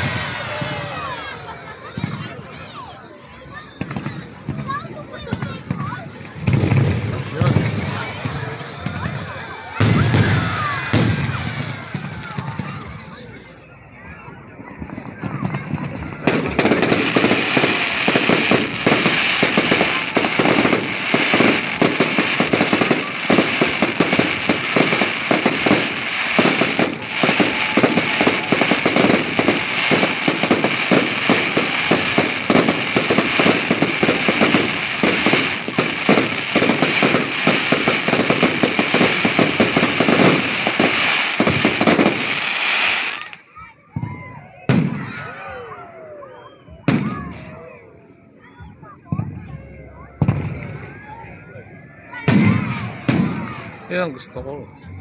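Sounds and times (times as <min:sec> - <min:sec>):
fireworks bangs and crackling: 0:00.0 - 0:45.7, 0:46.7 - 0:47.8, 0:48.4 - 0:54.8.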